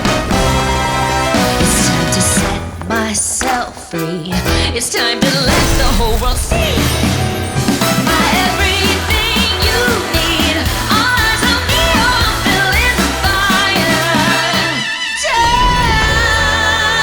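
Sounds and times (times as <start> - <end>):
pop song with sung vocal: 0.0 - 17.0.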